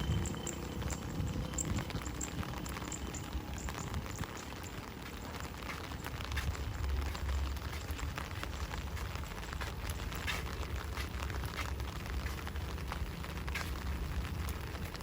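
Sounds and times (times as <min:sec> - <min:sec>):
low rumble: 0:00.0 - 0:15.0
rain falling: 0:00.0 - 0:15.0
raindrops ticking: 0:00.0 - 0:15.0.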